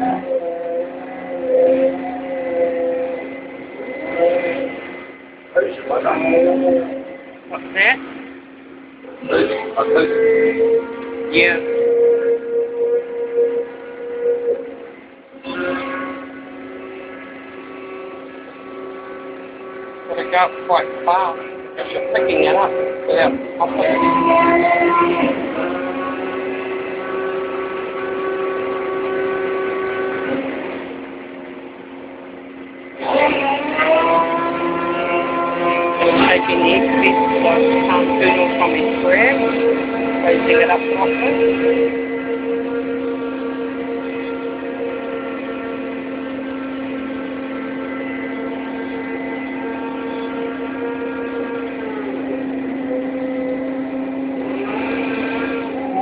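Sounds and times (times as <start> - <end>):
crane machinery humming: 0.0 - 56.0.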